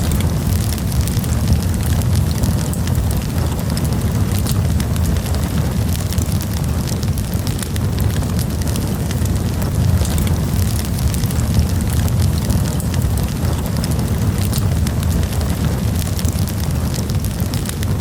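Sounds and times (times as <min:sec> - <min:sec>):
burning wood crackling and popping: 0:00.0 - 0:18.0
campfire flames rumbling: 0:00.0 - 0:18.0.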